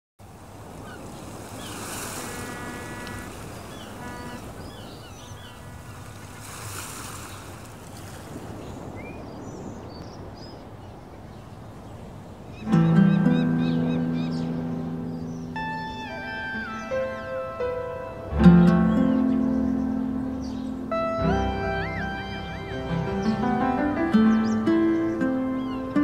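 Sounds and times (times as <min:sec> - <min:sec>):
ocean surf washing in: 0:00.2 - 0:26.0
birds chirping: 0:00.4 - 0:26.0.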